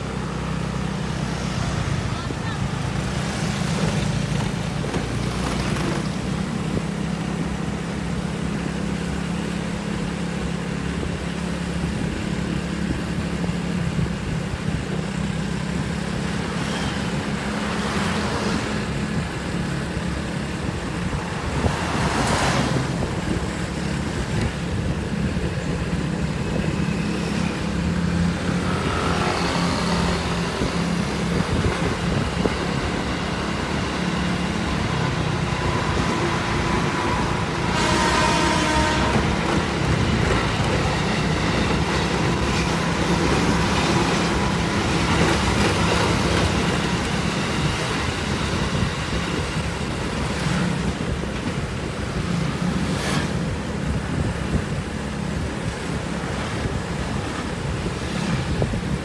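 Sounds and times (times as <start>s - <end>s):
engine hum: 0.0s - 59.0s
vehicles passing: 0.0s - 59.0s
wind and tyre noise: 0.0s - 59.0s.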